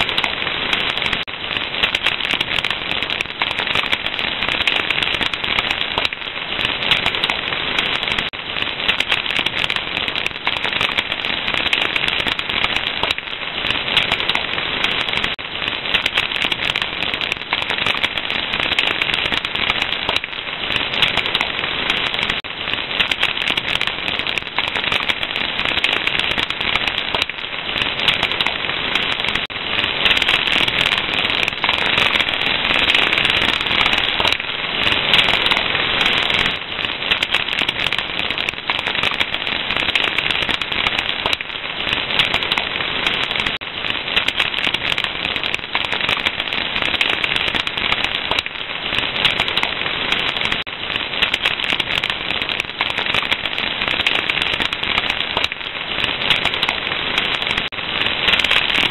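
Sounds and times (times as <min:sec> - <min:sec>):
fire crackling: 0:00.0 - 0:58.9.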